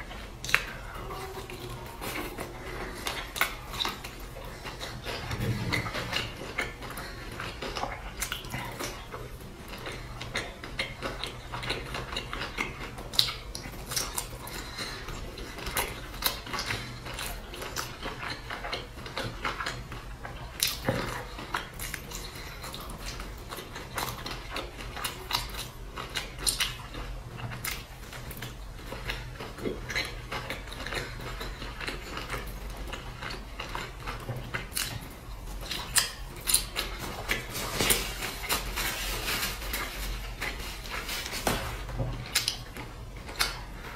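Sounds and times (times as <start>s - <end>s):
crunchy chewing: 0.0s - 43.9s
low steady hum: 0.0s - 43.9s.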